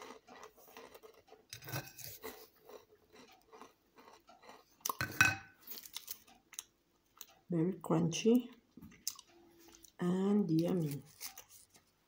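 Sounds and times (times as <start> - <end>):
biscuit being chewed: 0.0 - 5.0, 5.6 - 7.5, 8.9 - 12.0.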